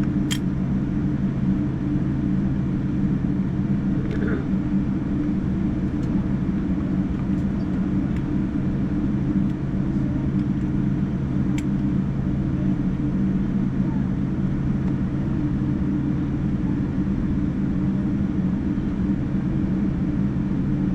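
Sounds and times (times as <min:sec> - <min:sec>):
jet engine drone in cabin: 0:00.0 - 0:20.9.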